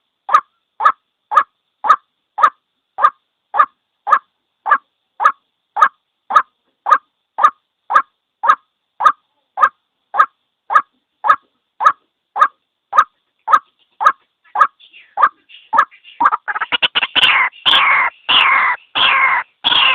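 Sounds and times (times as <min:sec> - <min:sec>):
waterhen calling: 0:00.3 - 0:19.9
faint scattered sounds: 0:00.4 - 0:18.3.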